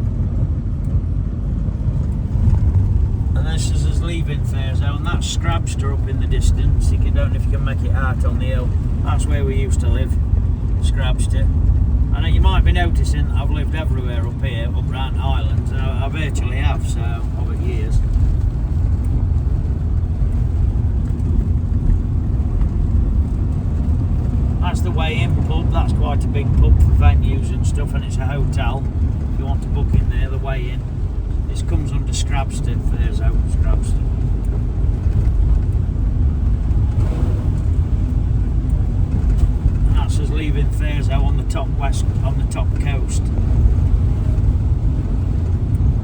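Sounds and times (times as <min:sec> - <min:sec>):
road and engine rumble in van: 0:00.0 - 0:46.0.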